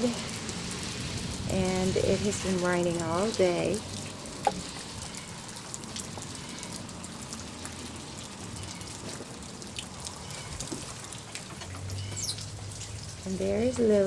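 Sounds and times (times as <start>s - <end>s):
rain drops ticking: 0.0s - 14.0s.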